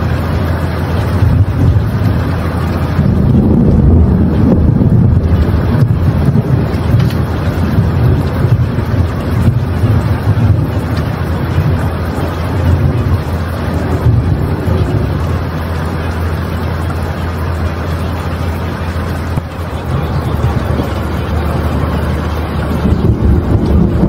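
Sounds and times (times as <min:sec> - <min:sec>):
low hum: 0:00.0 - 0:24.0
wind and water noise: 0:00.0 - 0:24.0.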